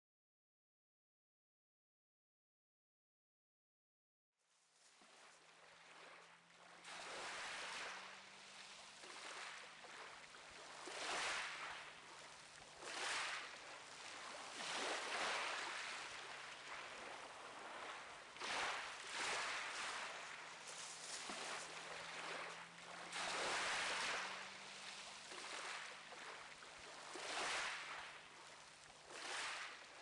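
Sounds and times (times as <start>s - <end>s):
sea waves washing in: 4.8s - 30.0s.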